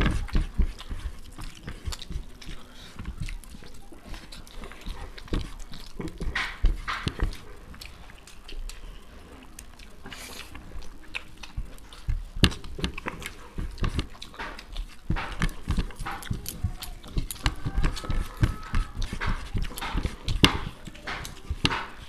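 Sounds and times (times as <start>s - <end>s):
fingers scraping on plates: 0.0s - 22.0s
people chewing and smacking: 0.0s - 22.0s.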